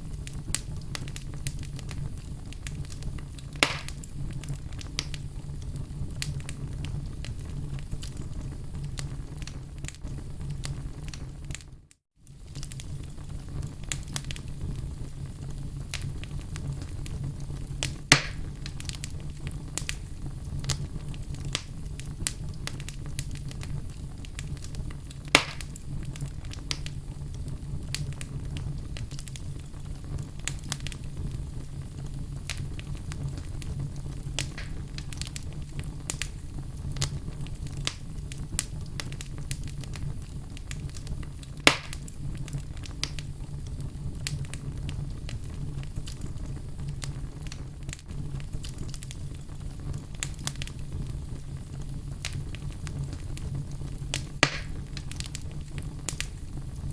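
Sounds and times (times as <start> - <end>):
wood fire crackling: 0.0 - 56.9
sharp pops from burning logs: 0.1 - 7.4, 12.3 - 14.6, 15.9 - 17.2, 17.8 - 31.3, 32.4 - 56.5.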